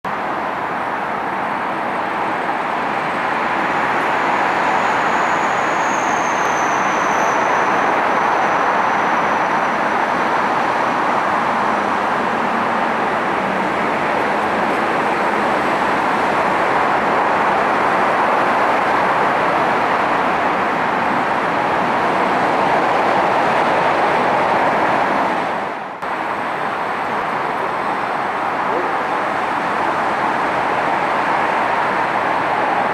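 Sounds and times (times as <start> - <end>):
jet airliner engines running: 0.1 - 32.9.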